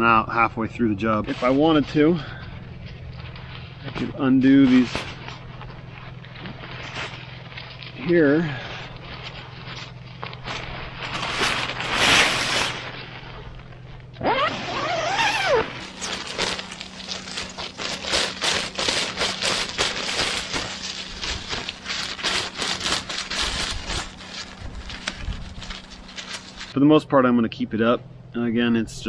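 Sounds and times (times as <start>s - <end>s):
tent fabric rustling: 2.6s - 26.8s.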